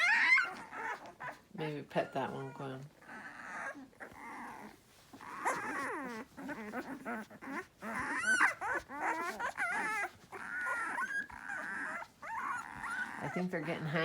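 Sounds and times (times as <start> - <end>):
puppies whimpering and whining: 0.0 - 14.0.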